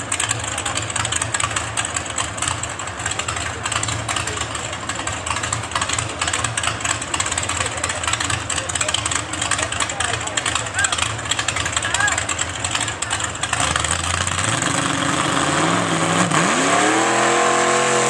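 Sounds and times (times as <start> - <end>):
loud tractor engine under load: 0.0 - 18.0.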